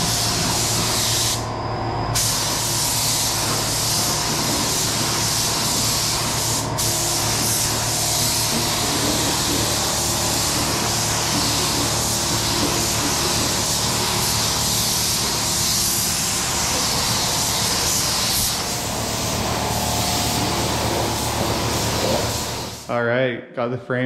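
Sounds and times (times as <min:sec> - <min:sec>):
paint spray gun hissing: 0:00.0 - 0:01.4, 0:02.2 - 0:22.9
steady low hum: 0:00.0 - 0:23.1.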